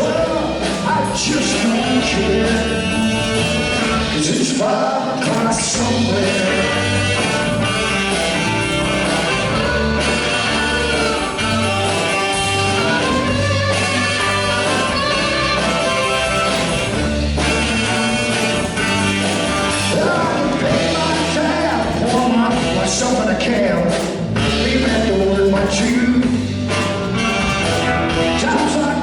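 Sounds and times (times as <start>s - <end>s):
live band playing country-rock: 0.0s - 29.0s.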